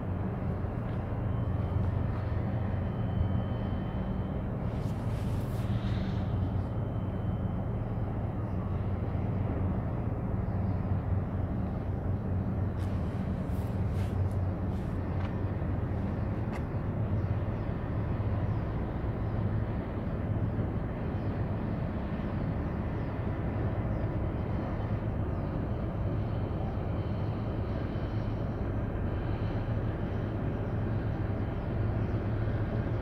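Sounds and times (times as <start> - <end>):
harbour background noise: 0.0 - 33.0
ship engine drone: 0.0 - 33.0.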